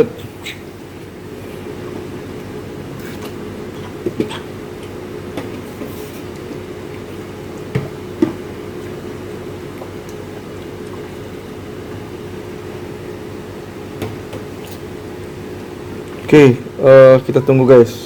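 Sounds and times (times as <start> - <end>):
computer fans and pump humming: 0.0 - 18.0.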